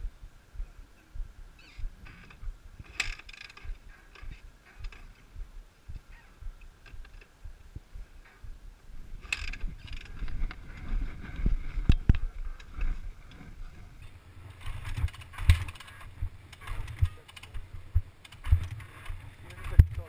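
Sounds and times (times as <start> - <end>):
low thumps: 0.0 - 20.0.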